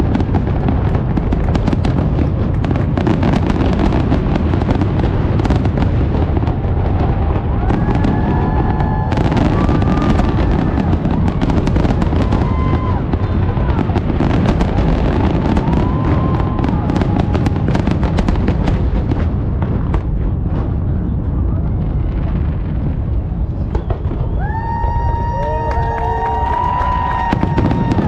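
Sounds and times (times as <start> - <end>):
firework booms: 0.0 - 25.6, 26.6 - 28.0
firework crackling: 0.0 - 28.0.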